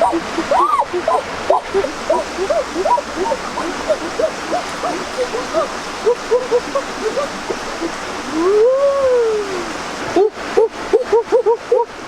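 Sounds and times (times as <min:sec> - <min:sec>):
animal calls rising and falling: 0:00.0 - 0:10.3
water rushing: 0:00.0 - 0:12.0.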